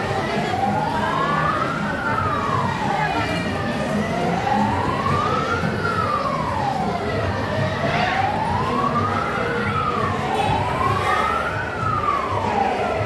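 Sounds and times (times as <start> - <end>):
fire truck siren wailing: 0.0 - 13.0.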